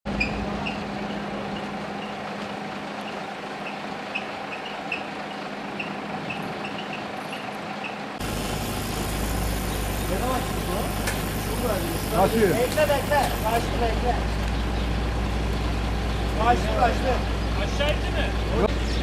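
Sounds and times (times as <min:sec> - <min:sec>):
fire truck engine idling: 0:00.4 - 0:19.0.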